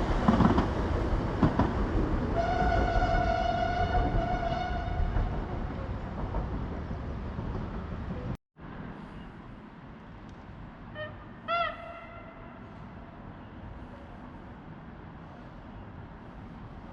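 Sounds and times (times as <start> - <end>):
outdoor background: 0.0 - 16.9
passing train rumble: 0.0 - 16.9.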